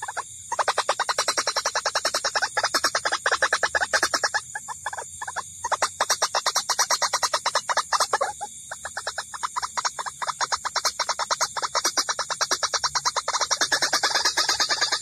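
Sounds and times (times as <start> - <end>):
harsh bird calls: 0.0 - 15.0.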